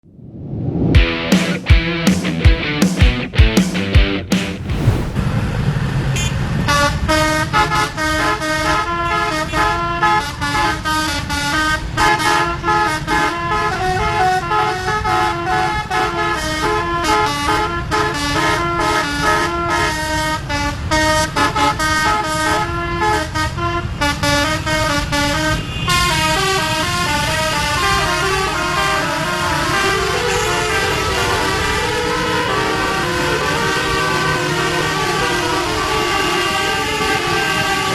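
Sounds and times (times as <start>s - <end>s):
multi-tone bus horn playing tunes: 6.7s - 37.9s.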